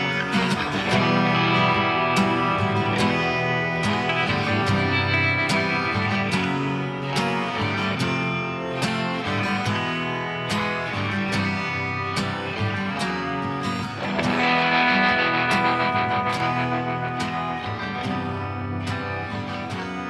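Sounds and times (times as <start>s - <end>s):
distorted guitars: 0.0s - 20.0s.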